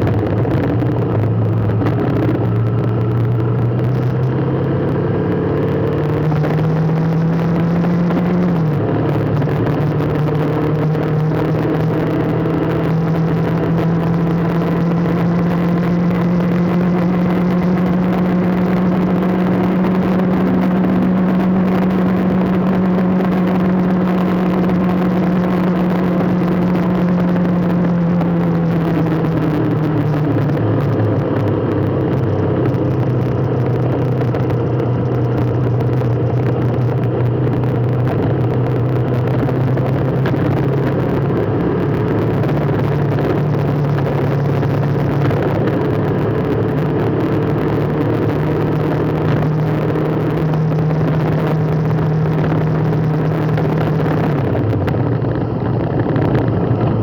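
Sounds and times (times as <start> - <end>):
constant rushing noise: 0.0 - 57.0
vehicle engine running: 0.0 - 57.0.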